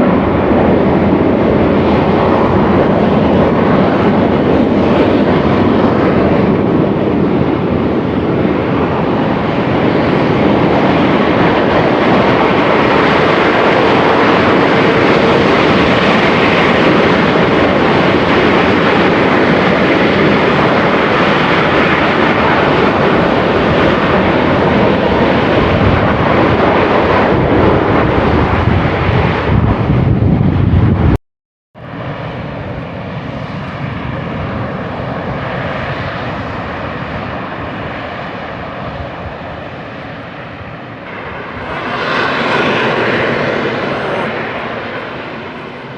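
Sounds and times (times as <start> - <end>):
volcano venting roar: 0.0 - 31.1, 31.9 - 45.9.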